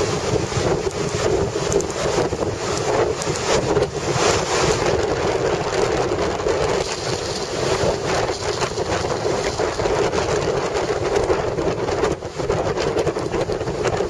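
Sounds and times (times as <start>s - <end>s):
wind gusting over microphone: 0.0s - 14.0s.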